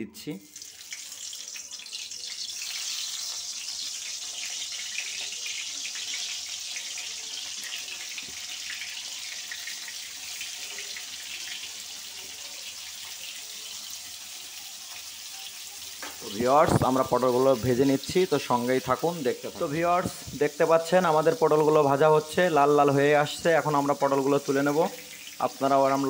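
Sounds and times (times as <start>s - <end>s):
vegetables sizzling in hot oil: 0.4s - 26.0s.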